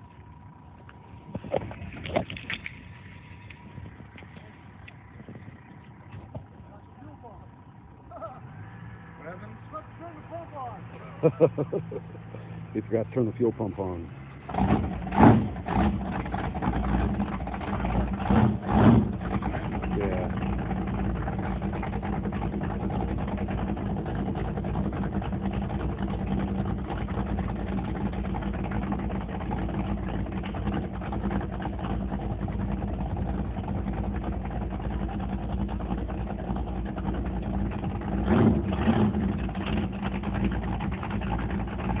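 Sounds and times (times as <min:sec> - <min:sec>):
boat engine idling: 0:00.0 - 0:42.0.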